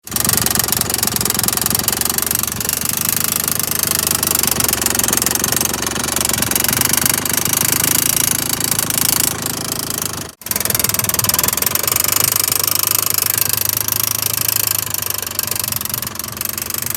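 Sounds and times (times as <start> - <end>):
rapid clicking engine knock: 0.0 - 16.9
scooter two-stroke engine running: 0.0 - 16.9.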